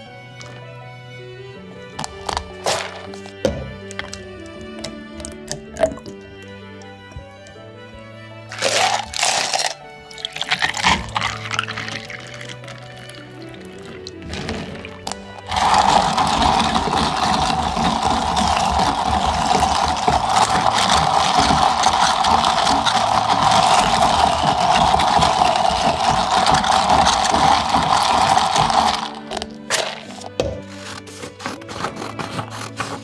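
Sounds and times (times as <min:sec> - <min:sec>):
ice rattling in plastic cup: 0:02.0 - 0:06.2, 0:08.5 - 0:33.0.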